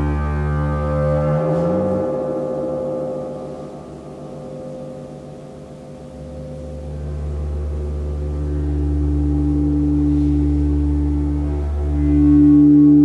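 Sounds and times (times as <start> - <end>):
gong ringing: 0.0 - 13.0.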